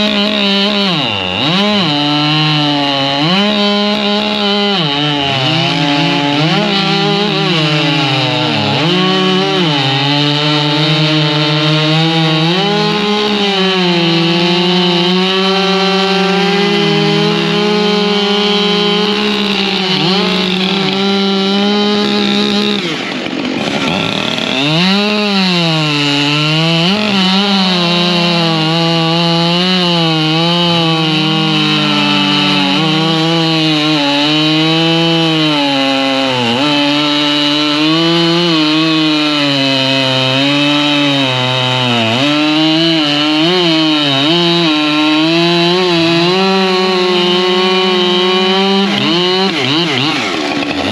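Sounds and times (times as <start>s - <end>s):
chainsaw cutting firewood: 0.0s - 50.9s.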